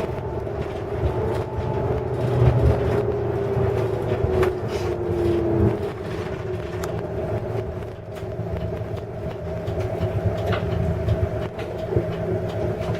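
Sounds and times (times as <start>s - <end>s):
bus drive rumble: 0.0s - 12.9s
steady whine: 0.0s - 12.9s.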